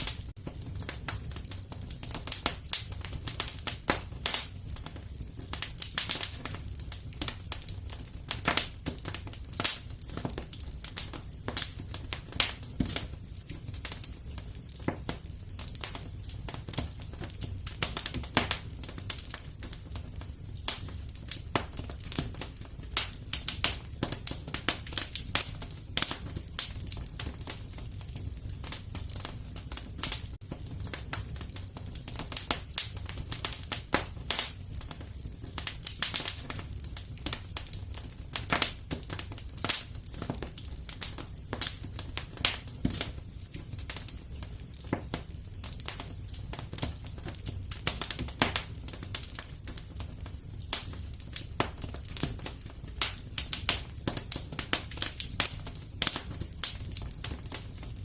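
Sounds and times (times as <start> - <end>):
low rumble of flame: 0.0 - 58.0
wood fire crackling: 0.0 - 58.0.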